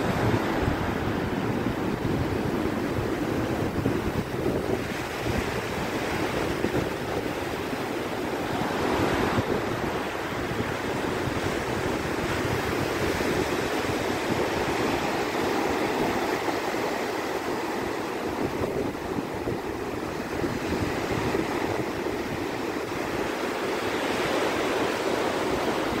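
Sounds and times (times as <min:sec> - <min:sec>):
ocean waves washing on beach: 0:00.0 - 0:26.0.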